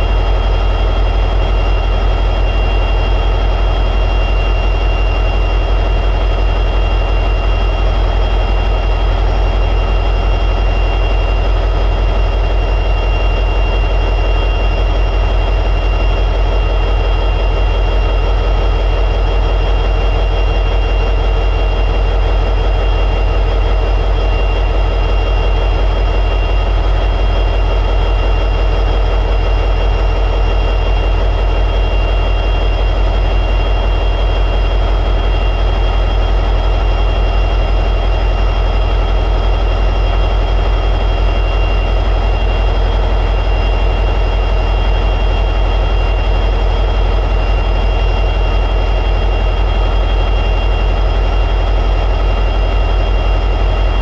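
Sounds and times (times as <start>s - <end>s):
locomotive diesel engine idling: 0.0s - 54.0s
steady high whine: 0.0s - 54.0s.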